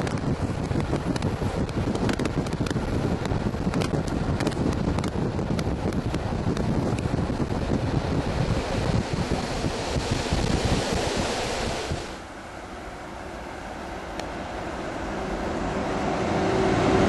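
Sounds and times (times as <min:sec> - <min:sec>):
train carriage rumbling on rails: 0:00.0 - 0:17.0
wind rushing past train window: 0:00.0 - 0:17.0.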